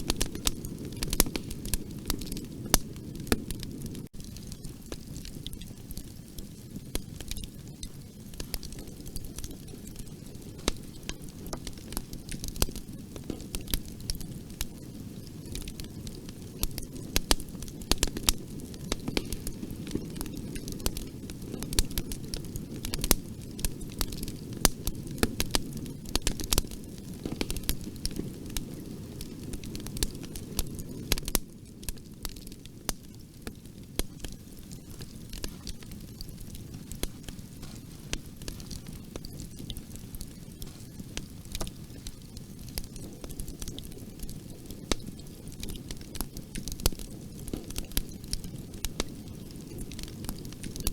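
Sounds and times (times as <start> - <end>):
bonfire flames rumbling: 0.0 - 50.9
wood crackling and popping: 0.0 - 50.9.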